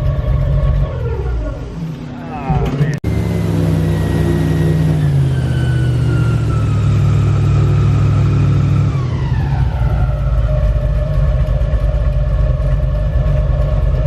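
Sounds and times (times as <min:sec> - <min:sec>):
airboat engine and propeller: 0:00.0 - 0:14.0.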